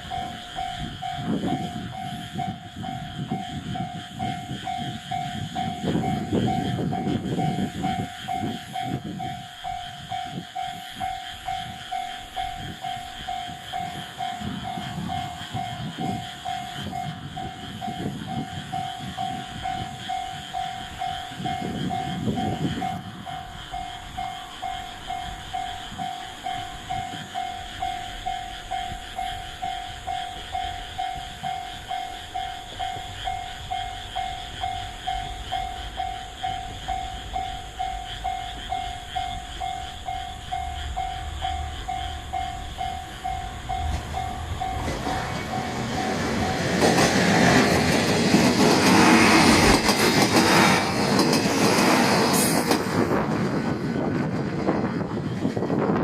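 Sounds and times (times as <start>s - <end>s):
level crossing warning bell: 0.0s - 48.8s
train rumble: 0.0s - 56.0s.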